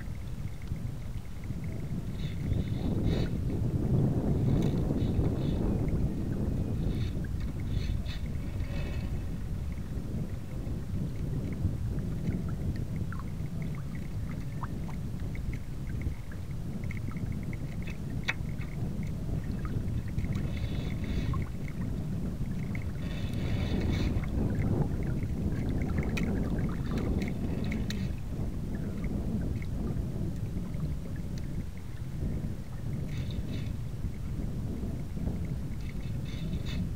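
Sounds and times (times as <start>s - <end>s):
water rushing along hull: 0.0s - 36.9s
wind rumbling on microphone: 0.0s - 36.9s.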